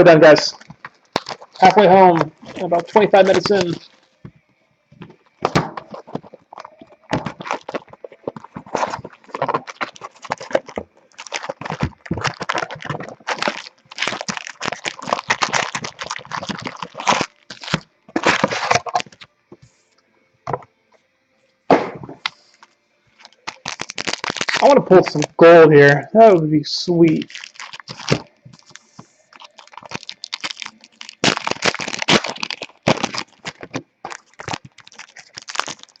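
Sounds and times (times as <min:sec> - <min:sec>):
foil wrappers crinkling: 0:00.0 - 0:04.4, 0:05.0 - 0:19.3, 0:22.1 - 0:25.6, 0:26.9 - 0:36.0.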